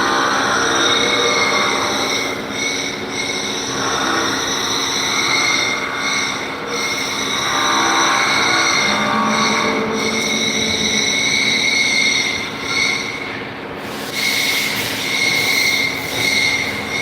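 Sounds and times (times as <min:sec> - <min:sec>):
machine high-pitched whine: 0:00.0 - 0:17.0.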